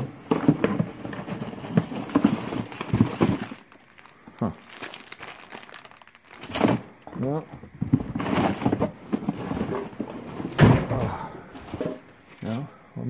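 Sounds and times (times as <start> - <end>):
paper and cardboard rustling: 0.0 - 4.1, 4.7 - 12.6.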